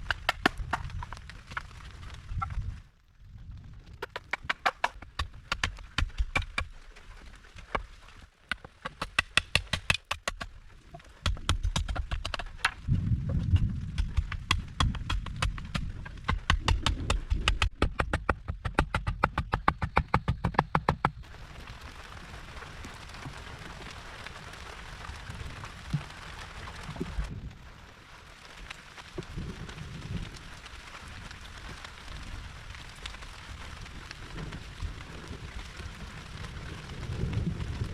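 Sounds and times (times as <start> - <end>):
steady rain: 0.0 - 18.1, 21.2 - 37.9.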